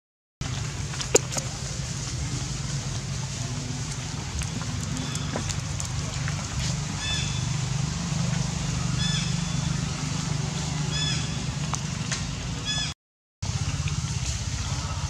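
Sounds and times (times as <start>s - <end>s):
steady low rumble: 0.4s - 15.0s.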